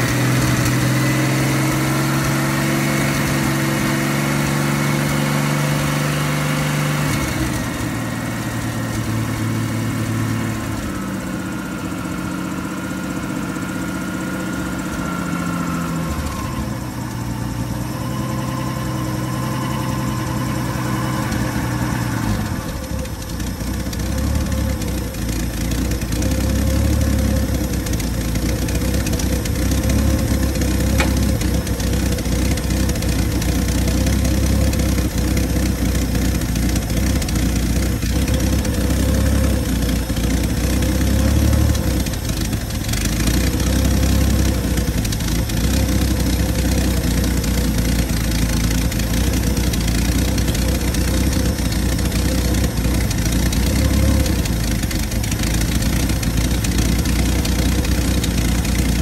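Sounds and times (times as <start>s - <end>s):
engine running at fast idle: 0.0s - 59.0s.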